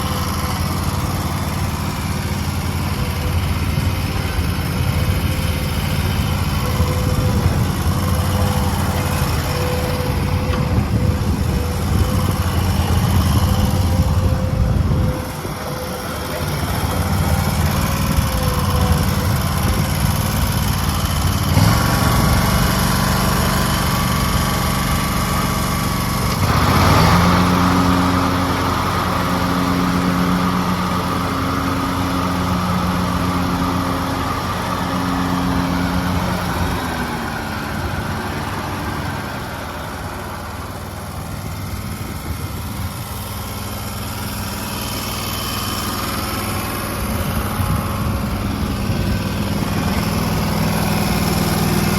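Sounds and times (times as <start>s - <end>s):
mower engine running: 0.0s - 51.9s.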